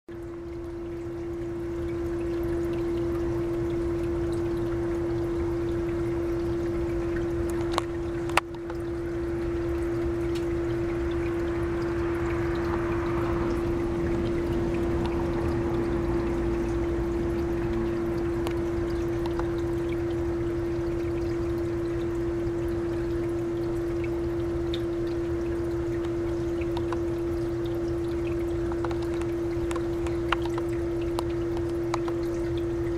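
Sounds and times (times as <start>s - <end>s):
constant hum: 0.1s - 32.9s
running water: 0.1s - 32.9s.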